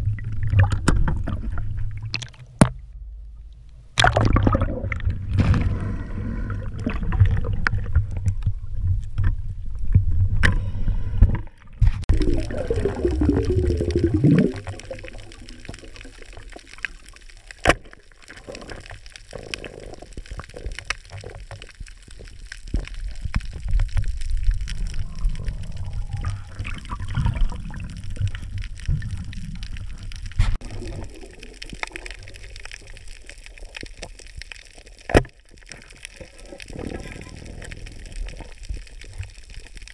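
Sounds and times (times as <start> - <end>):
water gurgling and rushing: 4.0 - 9.0, 12.0 - 39.9.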